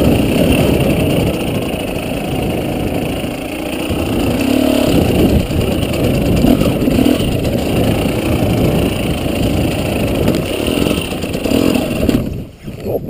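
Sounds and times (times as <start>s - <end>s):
dirt bike engine revving: 0.0s - 12.6s.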